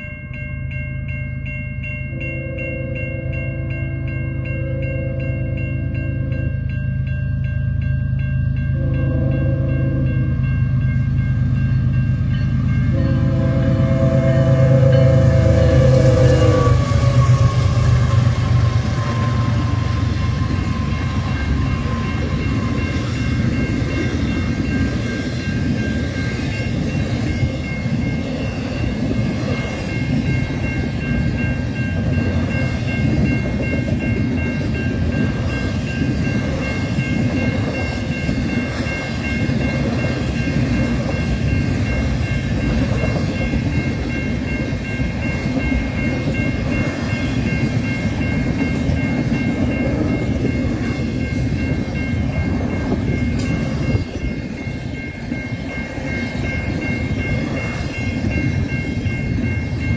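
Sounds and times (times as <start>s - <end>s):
freight train rumble: 0.0s - 59.9s
high-pitched tones: 1.8s - 59.9s.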